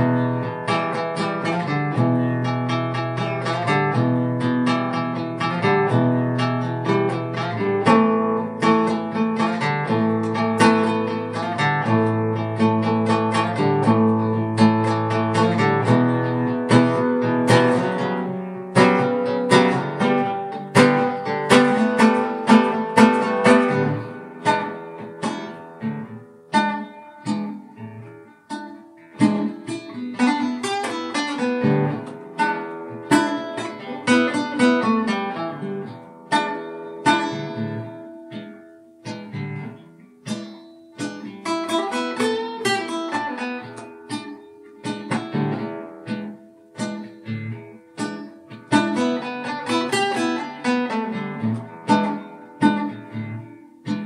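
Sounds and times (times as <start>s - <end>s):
guitar playing: 0.0s - 54.0s.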